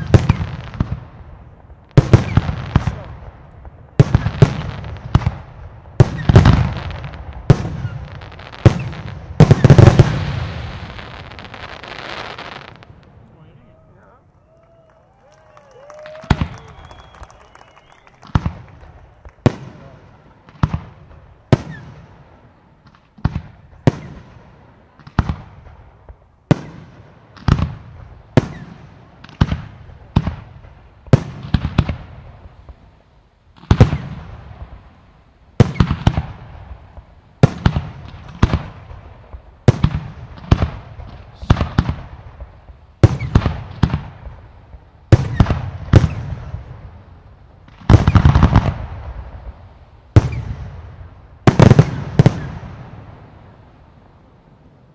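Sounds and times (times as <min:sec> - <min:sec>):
fireworks bursting with rumbling echo: 0:00.0 - 0:54.9.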